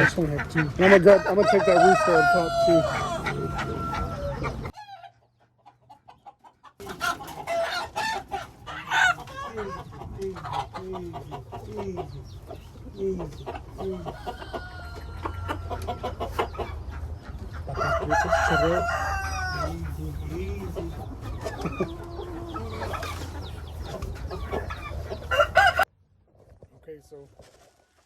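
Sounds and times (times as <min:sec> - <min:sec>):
roosters crowing: 0:00.0 - 0:05.4, 0:06.7 - 0:25.9
chickens clucking: 0:00.0 - 0:28.0.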